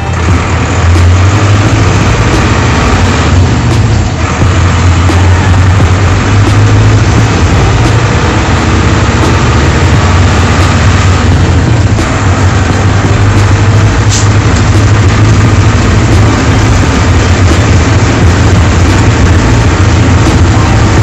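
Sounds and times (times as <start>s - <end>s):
diesel bus engine humming: 0.0s - 21.0s
road noise: 0.0s - 21.0s.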